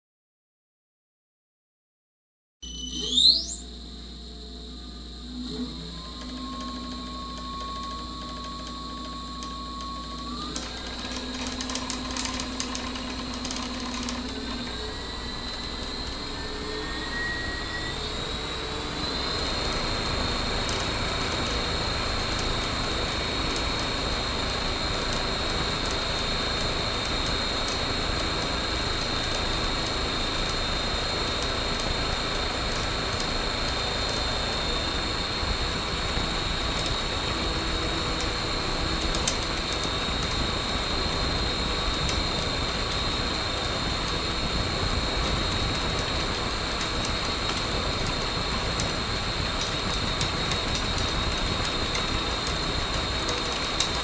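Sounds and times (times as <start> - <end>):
electric motor whine: 2.7 - 54.0.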